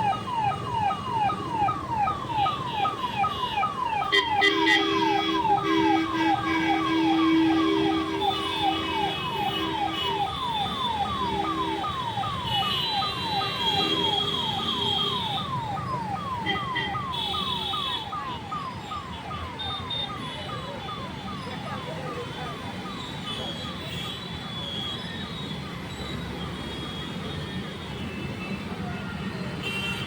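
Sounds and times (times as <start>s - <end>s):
steady siren tones: 0.0s - 27.8s
police siren: 0.0s - 29.7s.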